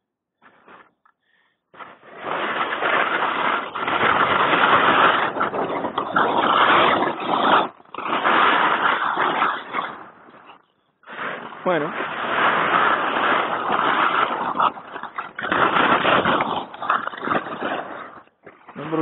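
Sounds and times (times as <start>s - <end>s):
skis rushing through snow: 0.4s - 19.0s
wind on microphone: 2.1s - 19.0s.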